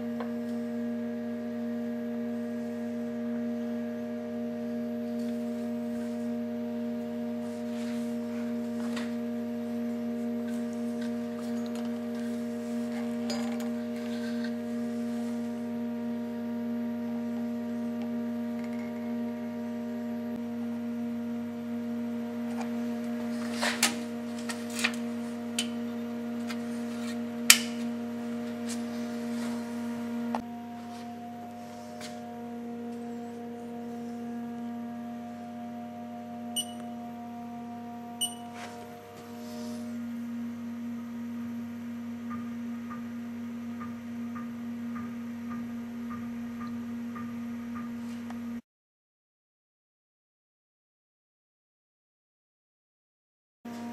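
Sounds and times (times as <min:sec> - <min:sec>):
steady electrical hum: 0:00.0 - 0:48.6.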